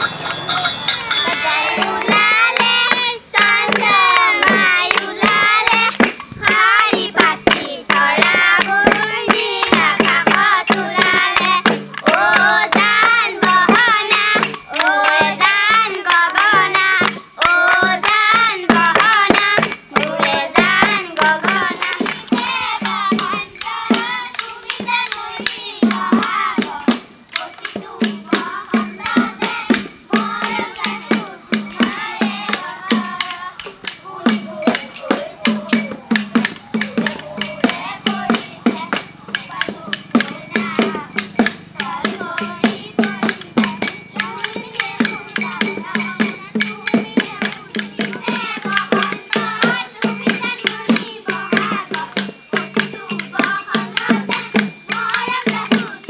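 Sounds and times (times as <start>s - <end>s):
children singing folk song: 0.0s - 56.0s
hand clapping: 1.2s - 56.0s.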